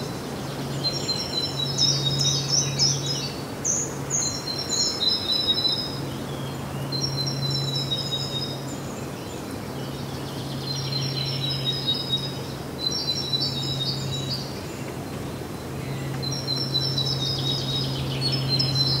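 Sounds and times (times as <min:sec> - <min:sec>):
birds chirping: 0:00.0 - 0:19.0
steady background hiss: 0:00.0 - 0:19.0.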